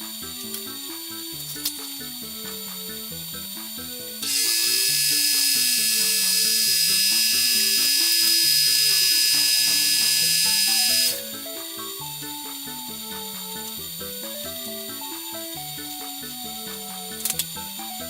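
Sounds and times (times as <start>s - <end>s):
background music: 0.0s - 18.0s
high-speed power tool whining: 2.5s - 18.0s.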